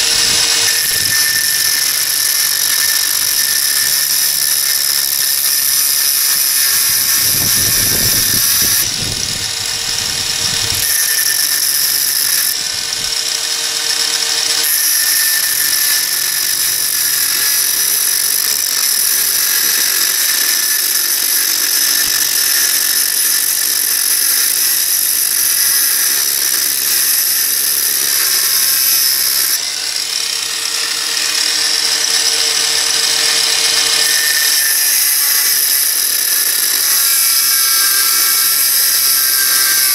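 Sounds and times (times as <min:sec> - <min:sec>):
cut-off disc grinding steel: 0:00.0 - 0:39.9.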